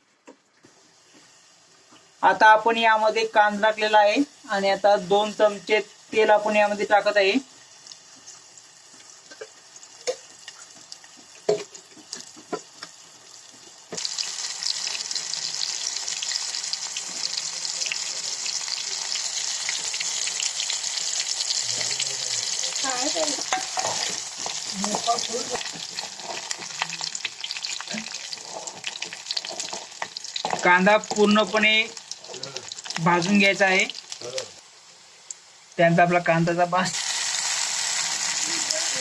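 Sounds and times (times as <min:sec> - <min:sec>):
onion sizzling in hot oil: 0:00.6 - 0:39.0.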